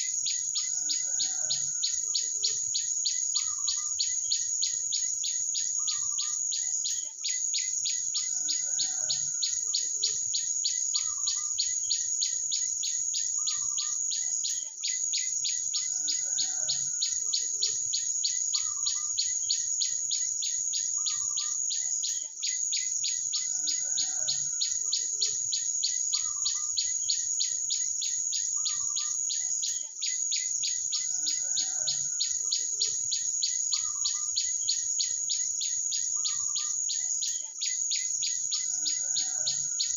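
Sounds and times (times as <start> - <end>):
insect trill: 0.0 - 39.9
small bird chirping: 0.0 - 39.9.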